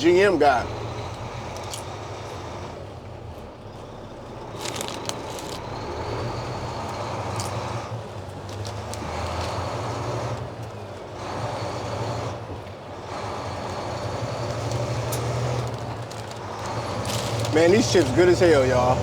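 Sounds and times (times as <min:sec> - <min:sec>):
road and wind noise: 0:00.0 - 0:19.0
truck engine drone: 0:00.0 - 0:19.0.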